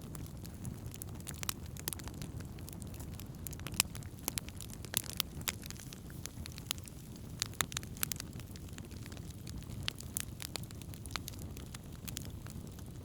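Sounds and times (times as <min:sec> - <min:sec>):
fire crackling and popping: 0:00.0 - 0:13.0
low fire rumble: 0:00.0 - 0:13.0.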